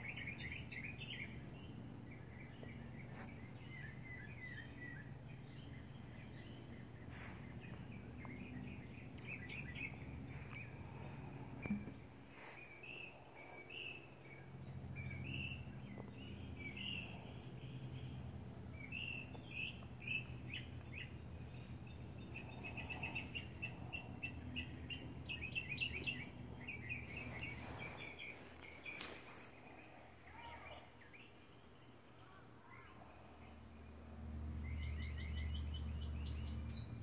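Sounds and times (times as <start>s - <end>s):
low steady hum: 0.0s - 37.0s
songbirds chirping: 0.0s - 37.0s.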